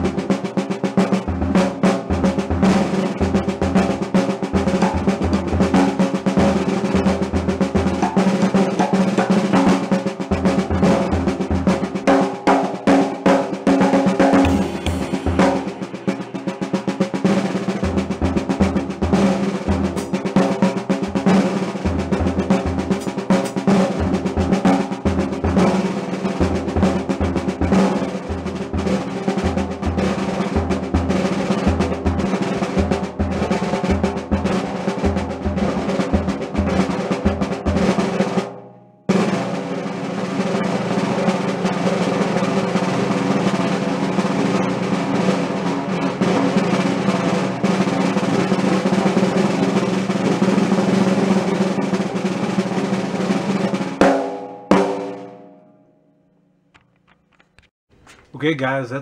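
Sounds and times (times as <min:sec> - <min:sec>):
snare drum rolls: 0:00.0 - 0:55.6.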